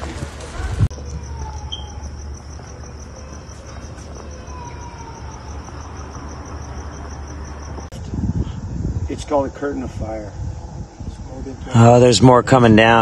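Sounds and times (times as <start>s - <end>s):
cricket chirping: 0.9s - 13.0s.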